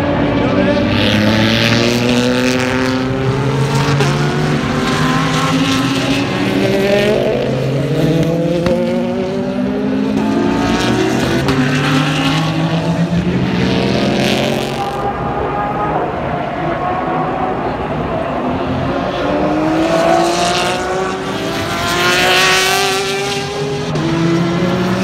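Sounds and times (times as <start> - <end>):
racing cars passing at speed: 0.0 - 25.0.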